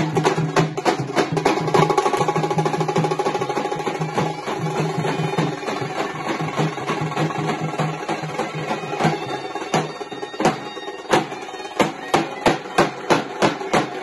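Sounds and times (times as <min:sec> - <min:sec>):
dhol drums beaten with sticks: 0:00.0 - 0:14.0
loud sharp drum strokes: 0:00.0 - 0:14.0.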